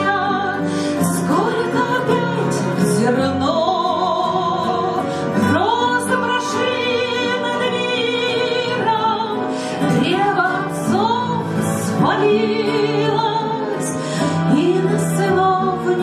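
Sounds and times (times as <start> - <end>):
instrumental accompaniment: 0.0 - 16.0
woman singing operatically: 0.0 - 16.0.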